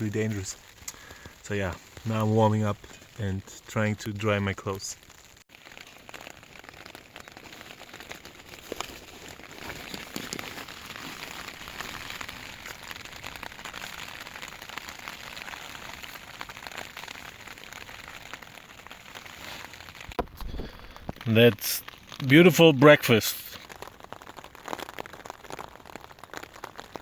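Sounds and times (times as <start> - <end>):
rain pattering on a tent: 0.0 - 27.0.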